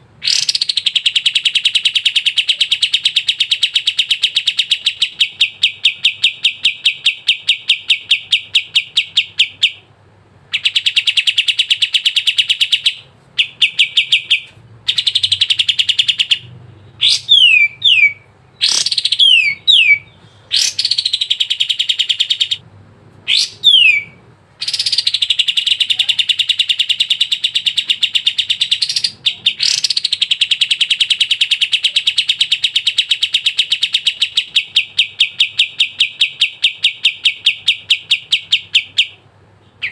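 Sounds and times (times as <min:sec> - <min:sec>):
bird trilling: 0:00.2 - 0:09.9, 0:10.5 - 0:22.6, 0:23.3 - 0:39.2.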